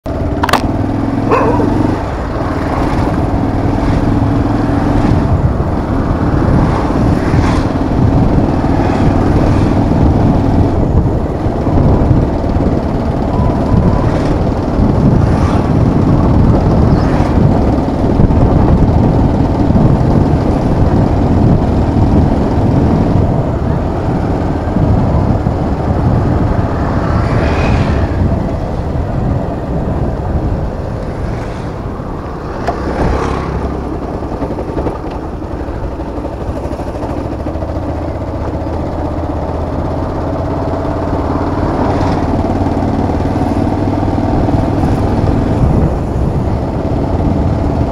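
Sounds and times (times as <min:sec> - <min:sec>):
motorcycle engine running: 0:00.0 - 0:47.9
wind rumble on microphone: 0:00.0 - 0:47.9.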